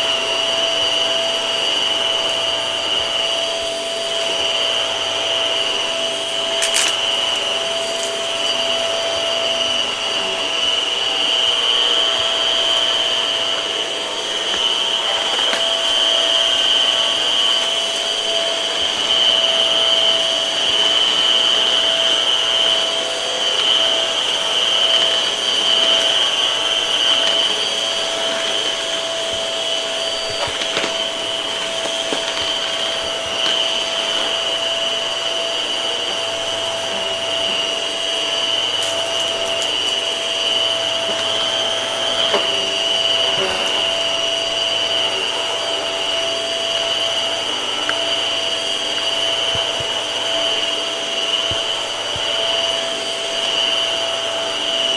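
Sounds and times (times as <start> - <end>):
vacuum cleaner whining: 0.0 - 54.9.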